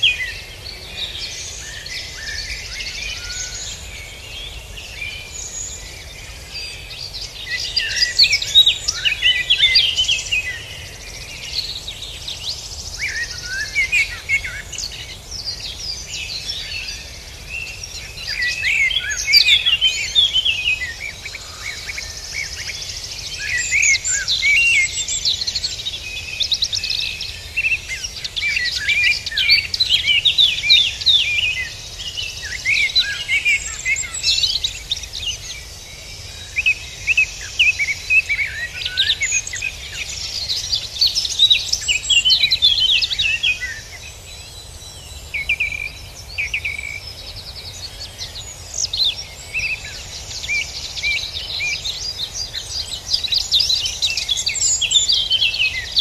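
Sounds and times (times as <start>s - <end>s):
low background hiss: 0.0s - 56.0s
songbirds chirping and trilling: 0.0s - 56.0s.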